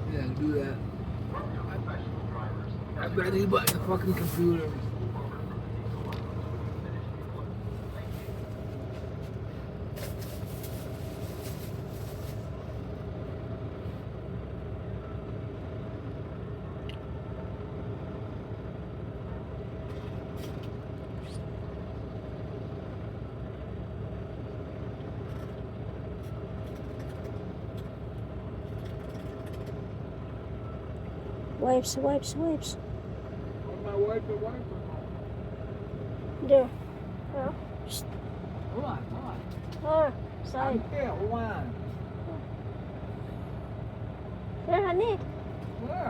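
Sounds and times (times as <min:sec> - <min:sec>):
road noise: 0:00.0 - 0:46.0
truck engine drone: 0:00.0 - 0:46.0.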